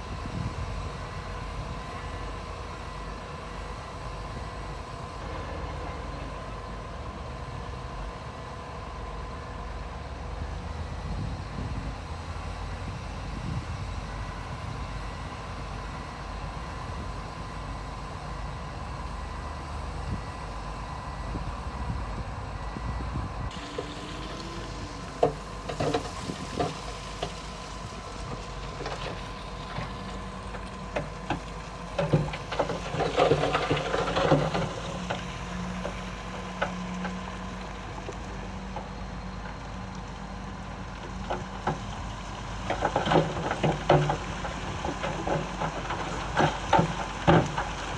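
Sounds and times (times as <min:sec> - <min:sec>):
diesel engine of heavy machinery: 0:00.0 - 0:47.9.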